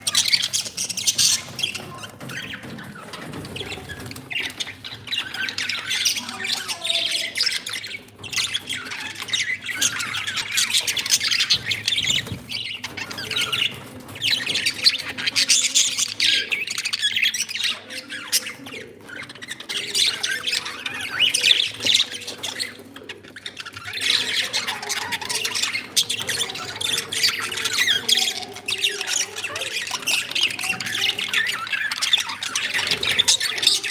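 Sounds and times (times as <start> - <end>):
budgies and cockatiels chattering: 0.0 - 33.9.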